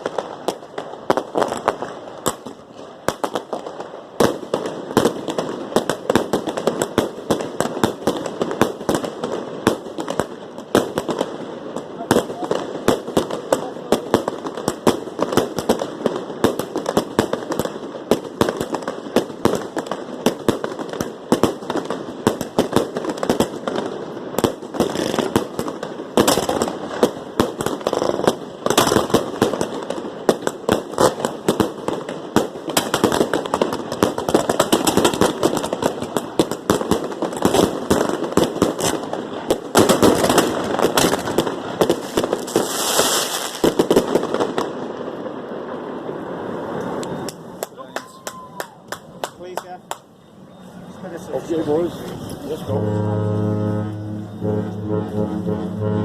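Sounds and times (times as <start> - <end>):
fireworks popping and cracking: 0.0 - 50.2.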